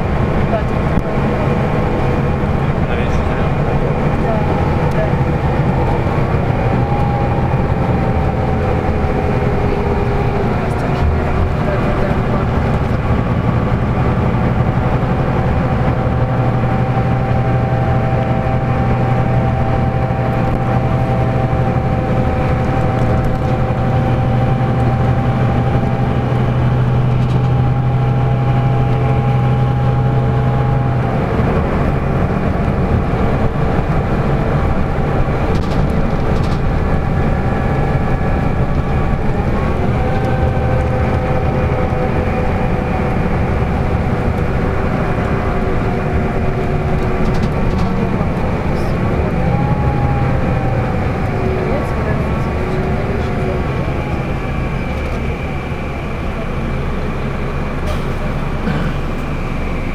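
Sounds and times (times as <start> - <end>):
bus engine drone: 0.0 - 59.9
low hum: 0.0 - 59.9
tyre and road noise: 0.0 - 59.9.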